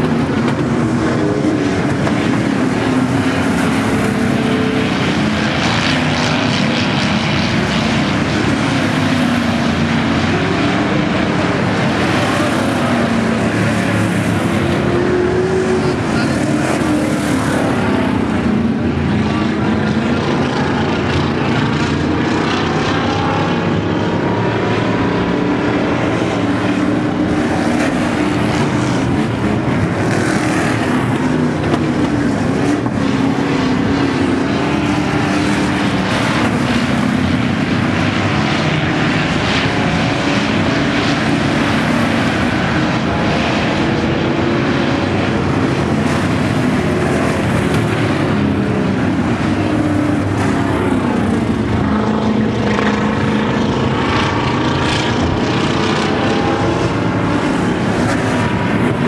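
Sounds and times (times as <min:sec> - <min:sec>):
race car engines roaring: 0:00.0 - 0:59.0.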